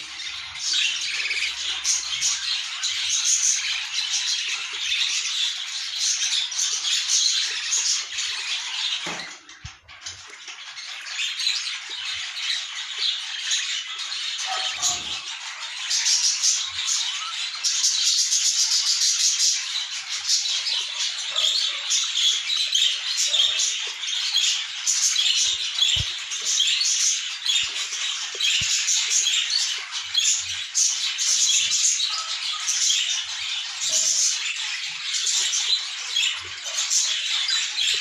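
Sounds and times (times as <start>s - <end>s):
budgerigars chirping and squawking: 0.0s - 38.0s.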